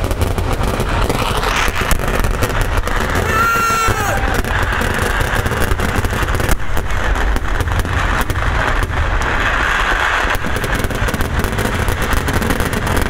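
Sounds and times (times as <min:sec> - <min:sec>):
firework explosions: 0:00.0 - 0:13.0.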